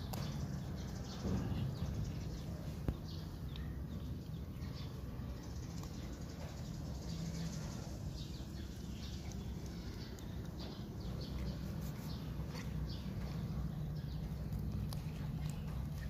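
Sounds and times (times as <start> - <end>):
small wet clicks and smacks: 0.0 - 1.0, 2.2 - 16.0
cats chewing and lapping: 0.0 - 16.0.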